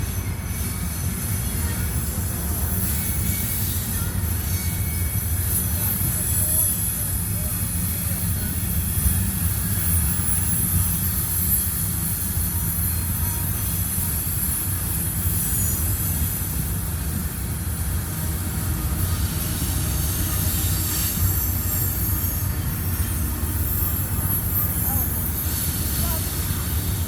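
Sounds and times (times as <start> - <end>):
high-pitched wheel flange squeal: 0.0 - 17.3, 18.0 - 27.0
train wheels rumbling: 0.0 - 27.0.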